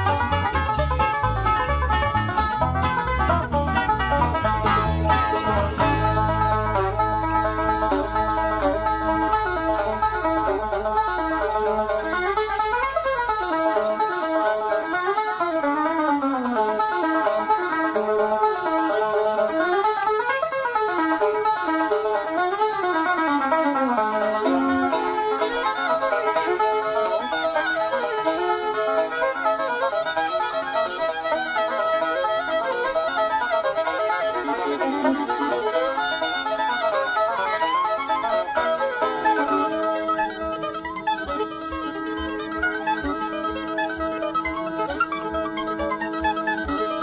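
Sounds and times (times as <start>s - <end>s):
instrumental background music: 0.0s - 47.0s.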